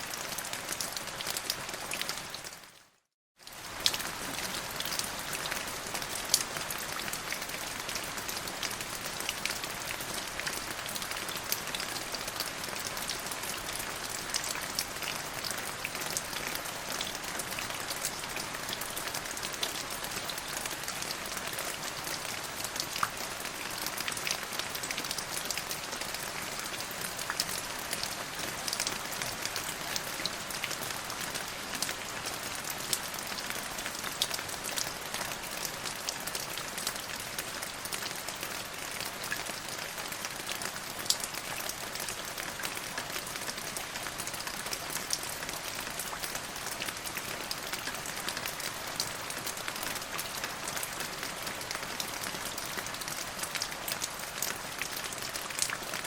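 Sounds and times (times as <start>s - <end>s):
steady rain with ticking drops: 0.0s - 56.0s.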